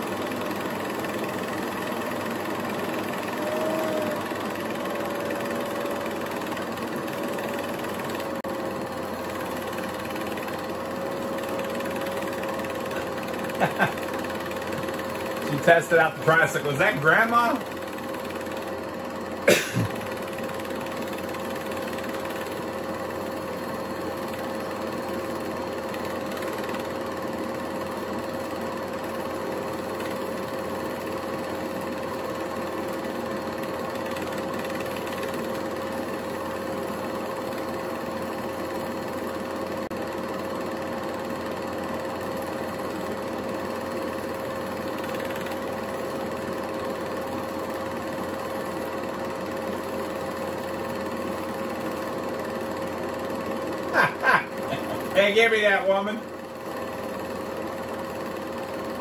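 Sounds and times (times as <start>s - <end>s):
motor hum: 0.0s - 59.0s
projector mechanical clatter: 0.0s - 59.0s.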